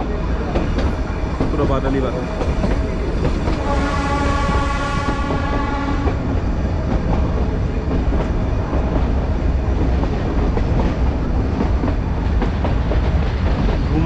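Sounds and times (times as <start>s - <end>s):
rail-joint clicks: 0.0s - 3.7s, 4.4s - 14.0s
train wheels rumbling on rails: 0.0s - 14.0s.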